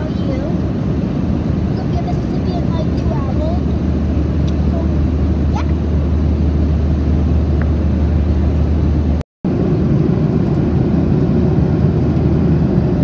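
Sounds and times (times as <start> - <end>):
jet cabin engine drone: 0.0 - 13.0.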